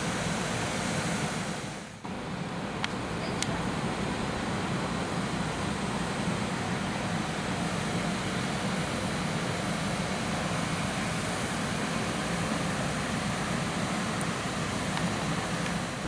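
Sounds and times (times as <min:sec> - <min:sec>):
electric locomotive cooling blowers: 0:00.0 - 0:16.0.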